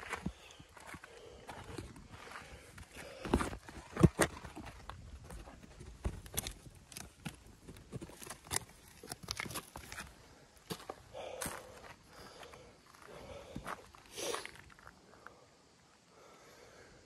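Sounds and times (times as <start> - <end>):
footsteps on stone rubble and gravel: 0.0 - 14.7.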